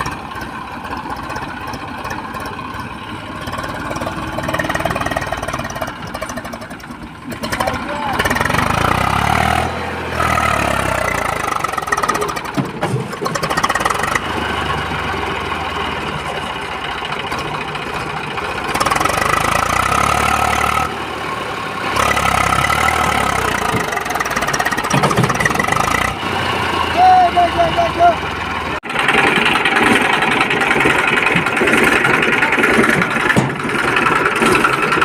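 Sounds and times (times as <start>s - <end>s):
tractor engine revving: 0.0s - 35.0s.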